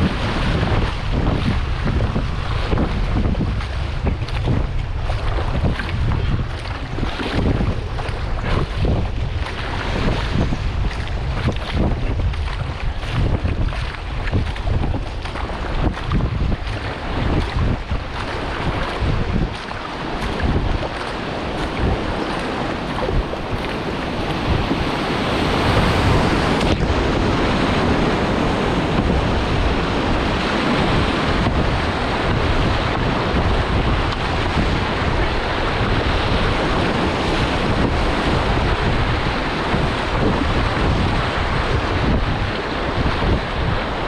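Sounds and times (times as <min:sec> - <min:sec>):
paddle splashes: 0:00.0 - 0:44.0
rushing river water: 0:00.0 - 0:44.0
wind buffeting microphone: 0:00.0 - 0:44.0.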